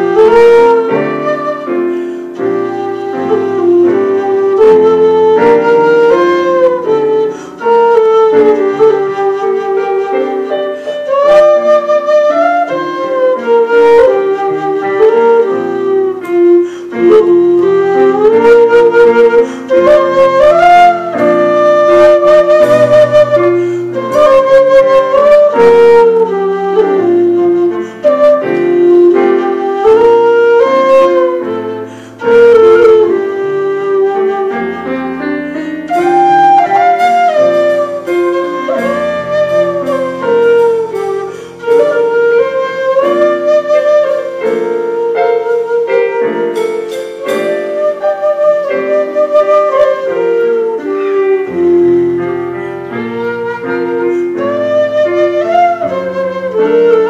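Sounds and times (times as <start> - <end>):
drum kit: 0.0 - 57.0
notched flute melody: 0.0 - 57.0.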